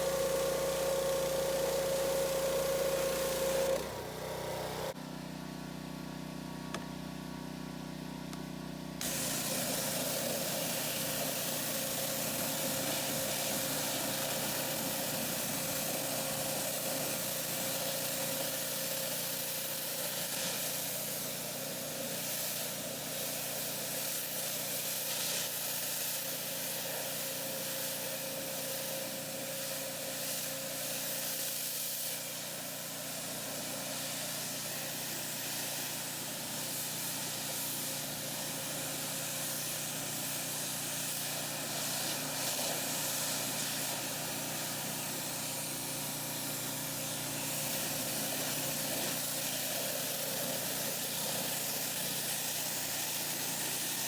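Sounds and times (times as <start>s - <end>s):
water jet spraying: 0.0s - 4.9s, 9.0s - 54.0s
pressure washer motor hum: 0.0s - 54.0s.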